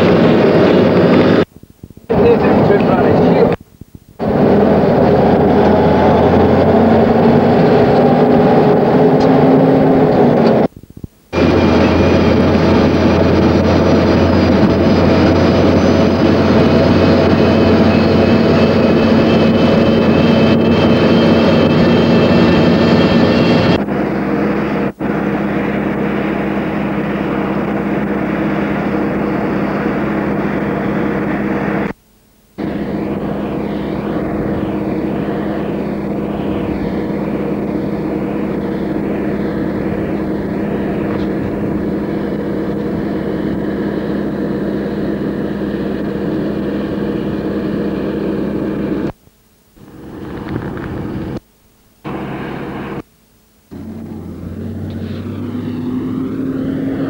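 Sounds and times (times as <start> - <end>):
diesel truck engine droning: 0.0 - 1.5, 2.1 - 3.6, 4.2 - 10.7, 11.3 - 32.0, 32.6 - 49.2, 49.8 - 51.4, 52.0 - 53.0, 53.7 - 57.0.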